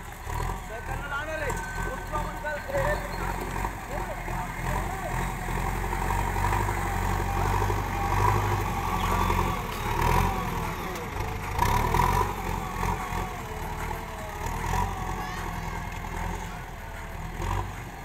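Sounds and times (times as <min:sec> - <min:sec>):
diesel engine revving under load: 0:00.0 - 0:18.0
loader bucket pushing soil: 0:00.0 - 0:18.0.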